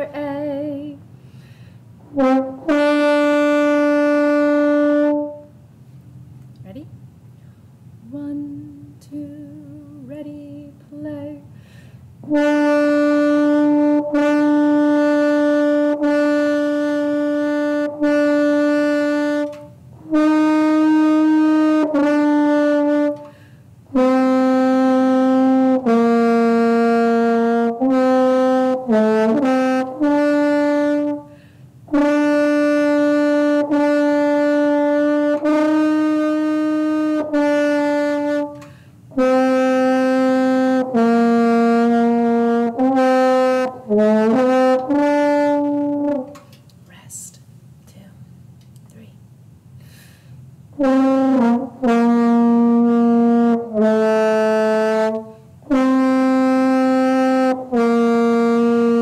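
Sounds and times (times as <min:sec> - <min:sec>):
french horn slow melody: 0:00.0 - 0:05.8, 0:08.2 - 0:47.2, 0:50.6 - 0:59.0.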